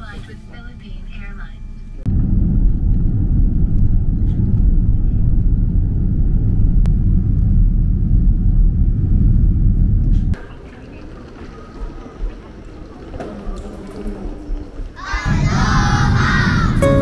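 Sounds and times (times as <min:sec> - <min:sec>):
vehicle rumble: 0:00.0 - 0:17.0.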